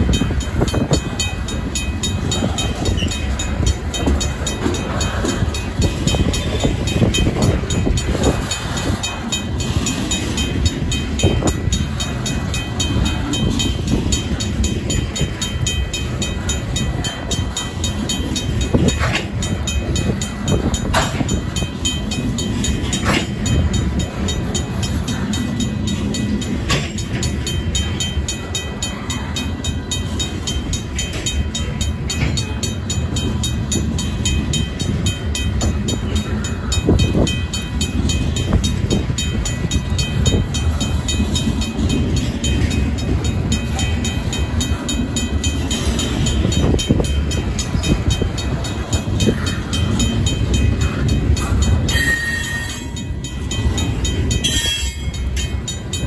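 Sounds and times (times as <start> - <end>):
crossing bell ringing: 0.0 - 56.0
train wheels rumbling and clattering: 0.0 - 56.0.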